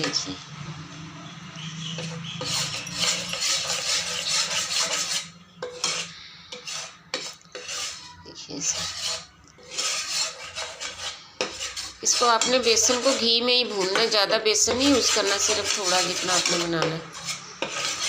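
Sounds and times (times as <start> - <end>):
utensil scraping pan bottom: 1.8 - 18.0.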